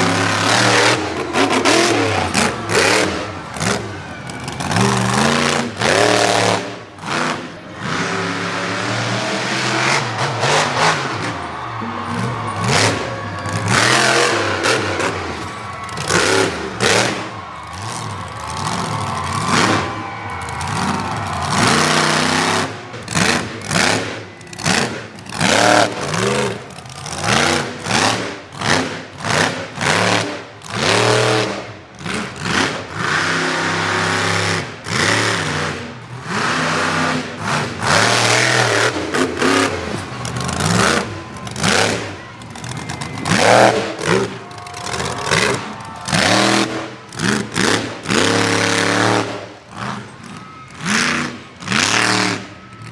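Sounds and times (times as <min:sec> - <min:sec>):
truck engine revving: 0:00.0 - 0:52.9.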